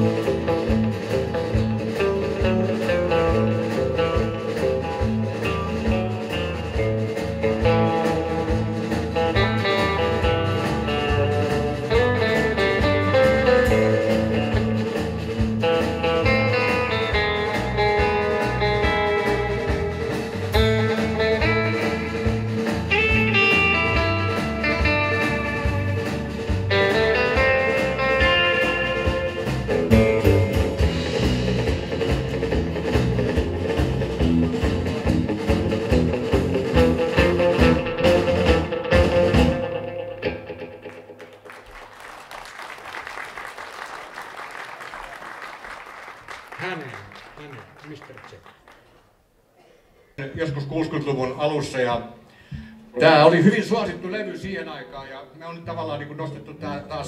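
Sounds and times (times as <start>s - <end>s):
instrumental band music: 0.0s - 48.7s, 50.4s - 57.0s.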